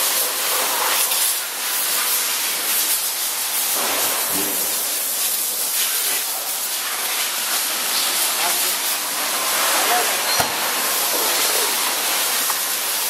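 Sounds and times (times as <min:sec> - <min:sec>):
industrial machinery hiss: 0:00.0 - 0:13.0.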